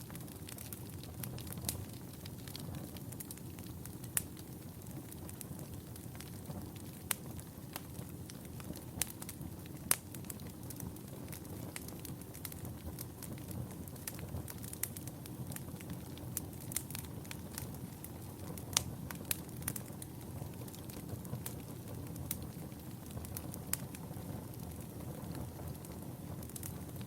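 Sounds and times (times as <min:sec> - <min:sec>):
fire crackling and popping: 0:00.0 - 0:27.0
wood fire rumbling: 0:00.0 - 0:27.0.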